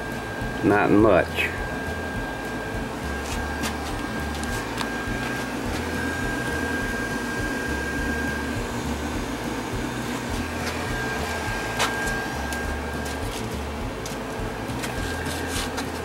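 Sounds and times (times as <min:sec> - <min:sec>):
faint high whine: 0:00.0 - 0:16.0
electric motor whirring: 0:01.3 - 0:16.0.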